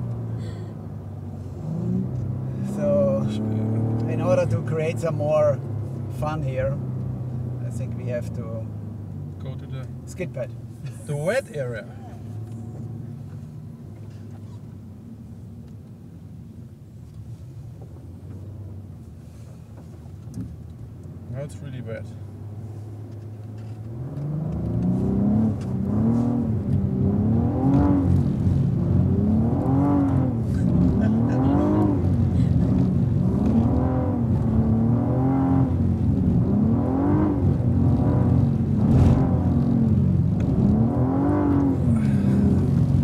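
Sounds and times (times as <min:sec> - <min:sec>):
car engine revving: 0:00.0 - 0:13.4, 0:21.1 - 0:43.0.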